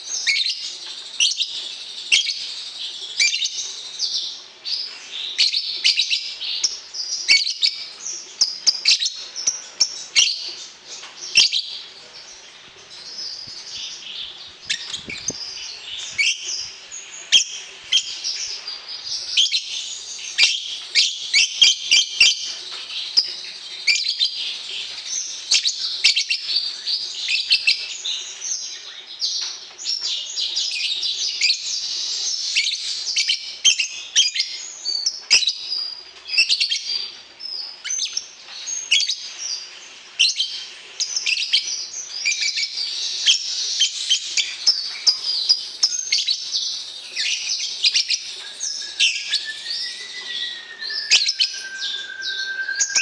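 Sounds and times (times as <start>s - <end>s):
lovebird chirping: 0.0s - 29.0s, 29.9s - 53.0s.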